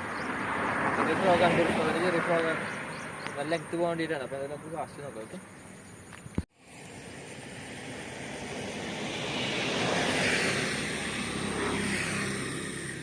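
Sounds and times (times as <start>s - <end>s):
engine passing by: 0.0s - 5.4s, 6.6s - 13.0s.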